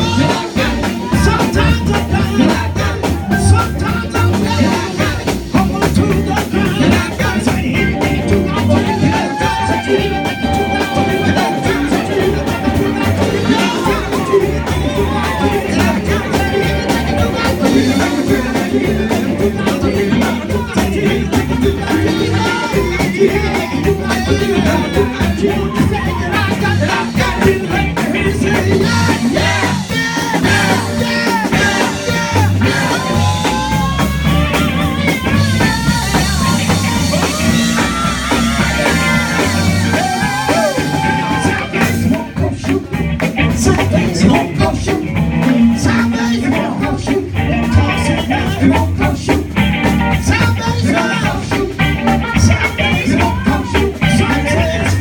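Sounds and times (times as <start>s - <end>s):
gospel band with drum kit: 0.0s - 55.0s
voices singing: 0.0s - 55.0s.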